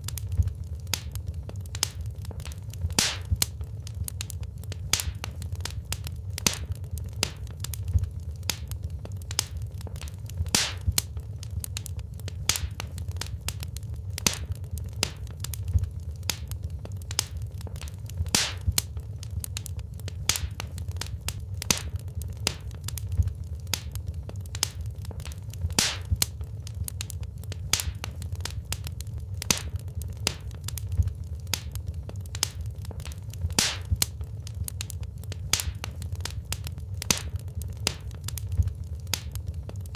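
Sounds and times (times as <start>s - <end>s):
burning logs crackling: 0.0s - 39.9s
fire flames rumbling: 0.0s - 39.9s.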